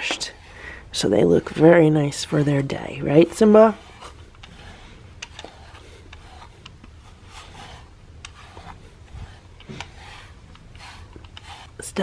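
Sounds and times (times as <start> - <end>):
brush stroking through fur: 0.0 - 12.0.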